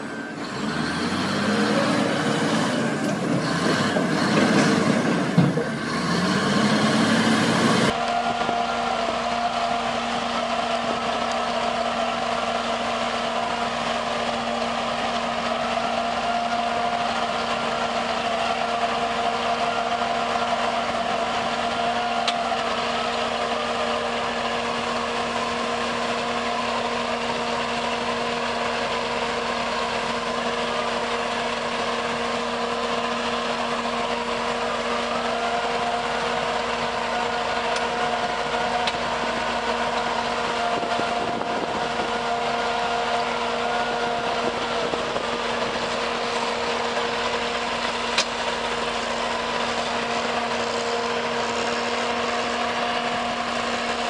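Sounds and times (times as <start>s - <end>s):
diesel engine droning under load: 0.0s - 54.0s.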